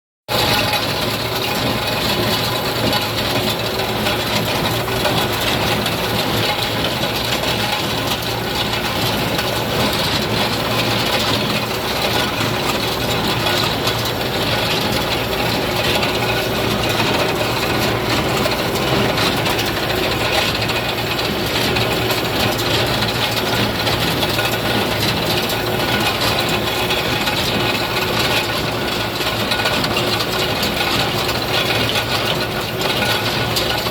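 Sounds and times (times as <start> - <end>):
baler clatter and rattle: 0.3 - 33.9
engine running: 0.3 - 33.9.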